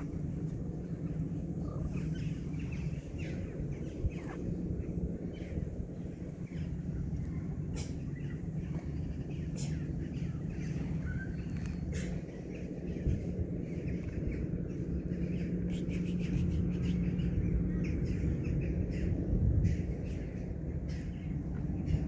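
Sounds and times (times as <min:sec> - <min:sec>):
low background rumble: 0:00.0 - 0:22.0
small birds chirping: 0:00.0 - 0:22.0.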